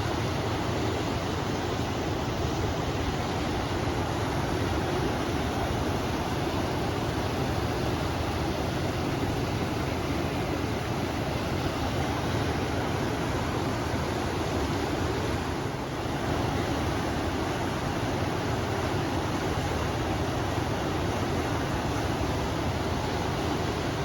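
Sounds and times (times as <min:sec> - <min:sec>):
river water rushing: 0:00.0 - 0:24.0
wind: 0:00.0 - 0:24.0.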